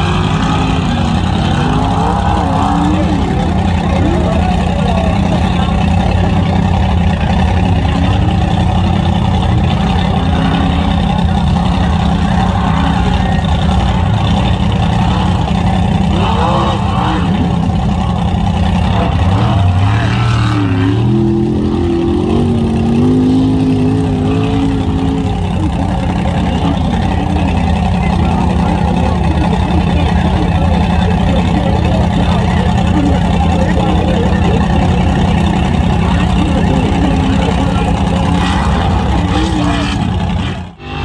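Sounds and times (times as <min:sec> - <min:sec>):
large truck engine running: 0:00.0 - 0:41.0.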